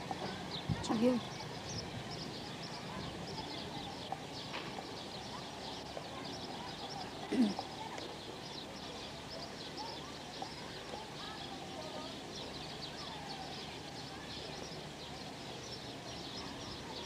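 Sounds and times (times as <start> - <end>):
distant voices and calls: 0.0 - 17.0
small birds chirping: 0.0 - 17.0.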